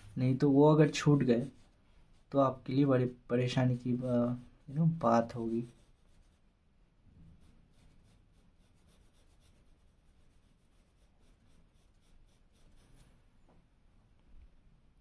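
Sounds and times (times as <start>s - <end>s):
pencil scratching on paper: 0.0s - 6.5s, 7.2s - 13.2s.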